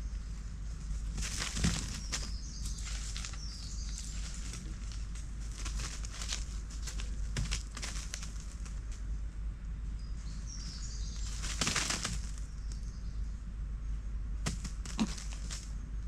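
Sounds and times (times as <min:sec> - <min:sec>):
dry leaves rustling: 0:00.0 - 0:09.2, 0:10.2 - 0:12.8, 0:14.4 - 0:15.8.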